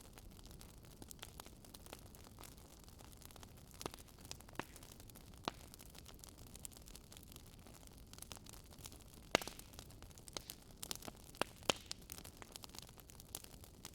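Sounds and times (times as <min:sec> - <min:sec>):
fire popping: 0:00.0 - 0:13.9
wood fire crackling: 0:00.0 - 0:13.9.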